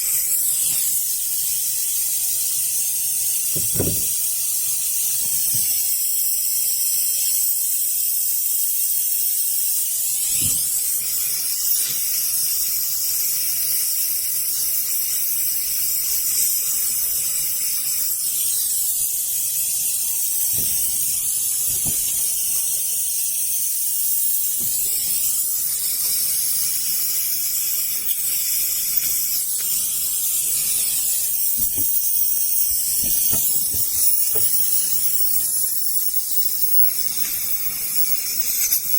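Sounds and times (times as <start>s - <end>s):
high-pitched hiss: 0.0s - 38.9s.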